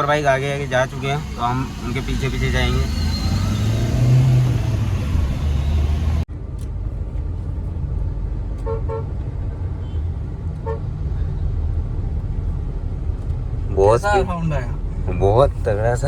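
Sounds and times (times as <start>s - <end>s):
traffic rumble: 0.0s - 16.0s
vehicle engine rumble: 0.0s - 16.0s.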